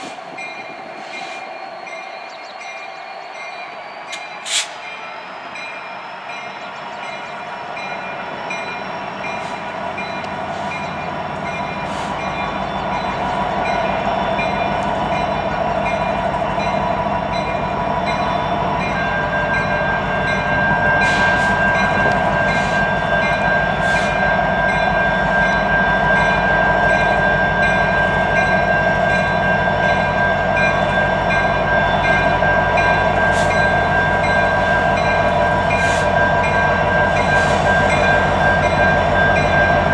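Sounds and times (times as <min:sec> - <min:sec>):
train passing: 0:00.0 - 0:39.9.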